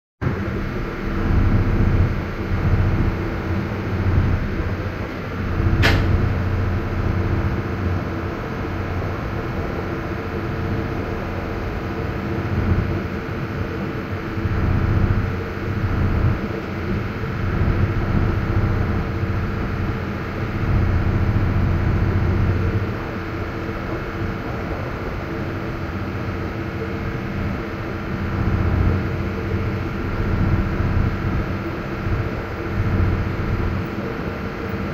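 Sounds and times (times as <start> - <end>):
ferry diesel engines droning: 0.3 - 34.9.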